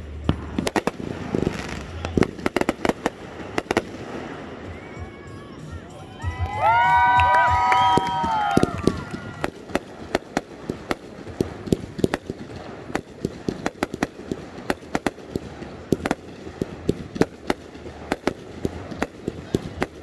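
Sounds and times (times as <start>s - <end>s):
fireworks bangs and pops: 0.0s - 5.1s, 6.4s - 20.0s.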